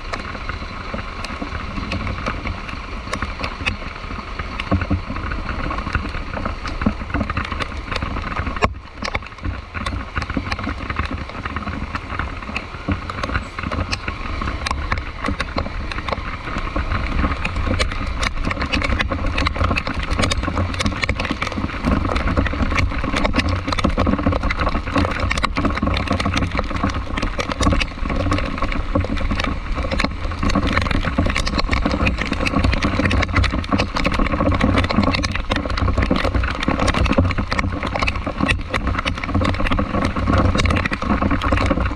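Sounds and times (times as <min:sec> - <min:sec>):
rain ticks: 0:00.0 - 0:41.9
tyre and road noise: 0:00.0 - 0:41.9
vehicle engine rumble: 0:00.0 - 0:41.9.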